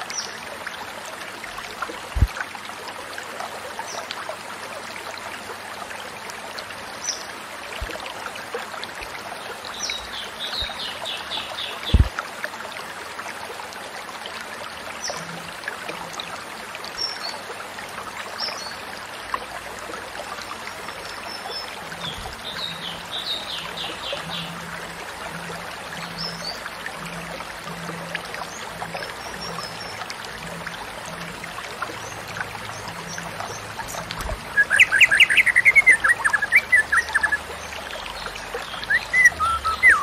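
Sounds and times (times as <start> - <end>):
stream trickling: 0.0 - 40.0.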